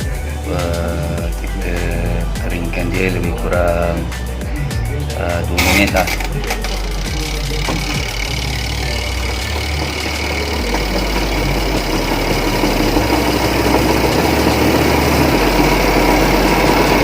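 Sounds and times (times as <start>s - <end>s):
spin-dryer motor hum: 0.0s - 17.0s.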